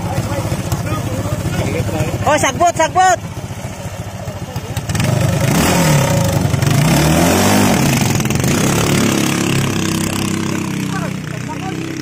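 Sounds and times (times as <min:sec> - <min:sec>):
small boat engine revving: 0:00.0 - 0:12.0.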